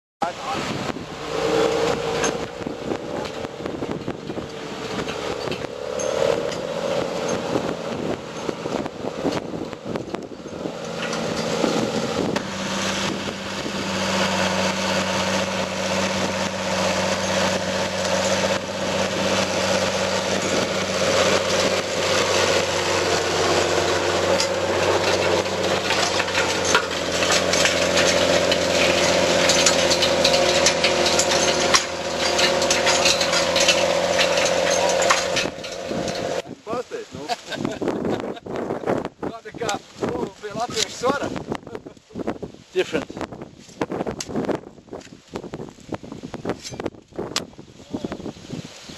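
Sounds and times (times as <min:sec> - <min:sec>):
tractor engine under load: 0:00.2 - 0:48.9.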